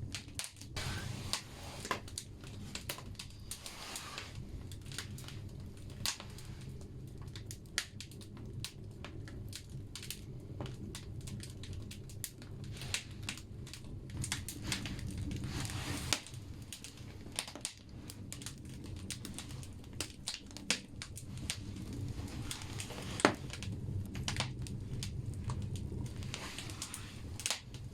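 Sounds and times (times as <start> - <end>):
firewood crackling and popping: 0.0 - 27.9
low rumble of fire: 0.0 - 27.9.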